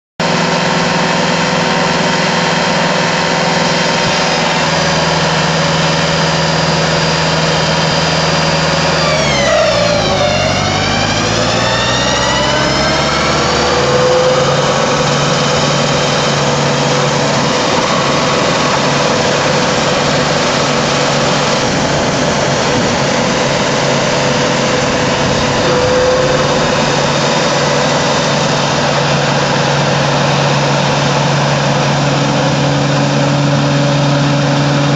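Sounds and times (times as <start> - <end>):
tractor mulcher whining: 0.2 - 34.9.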